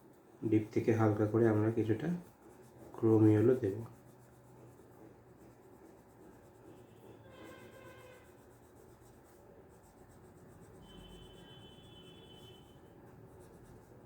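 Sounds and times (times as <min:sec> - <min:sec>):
crayon scratching on paper: 0:00.0 - 0:14.0.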